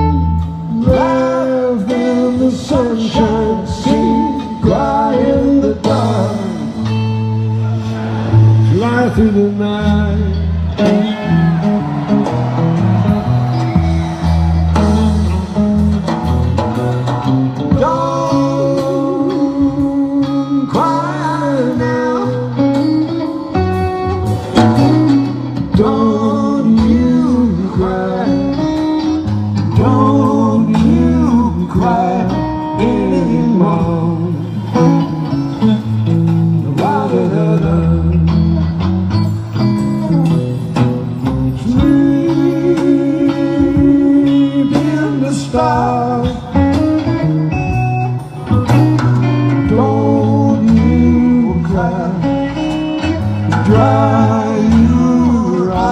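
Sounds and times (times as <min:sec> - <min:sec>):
person singing: 0:00.0 - 0:12.4, 0:16.6 - 0:39.2, 0:41.5 - 0:47.3, 0:48.3 - 0:55.9
guitar notes: 0:00.0 - 0:55.9
live band music: 0:00.0 - 0:55.9
walking bass line: 0:00.0 - 0:55.9.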